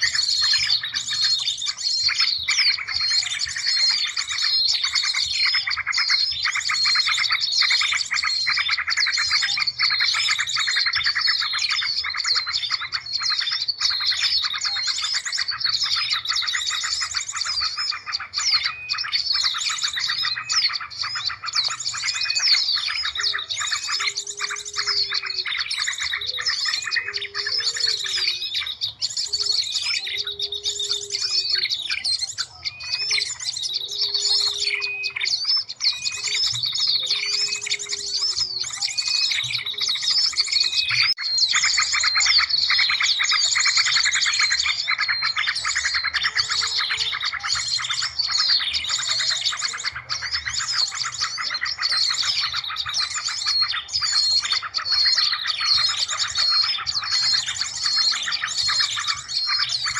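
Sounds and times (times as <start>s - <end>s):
low bird call: 0.0s - 59.9s
small birds chirping and trilling: 0.0s - 59.9s.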